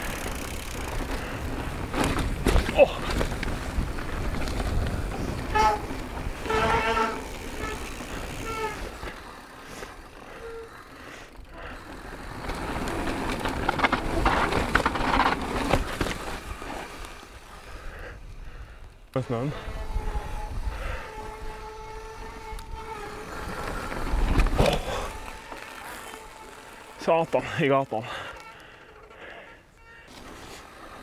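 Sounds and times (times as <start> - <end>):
bike tyres rattling over rough ground: 0.0 - 31.0.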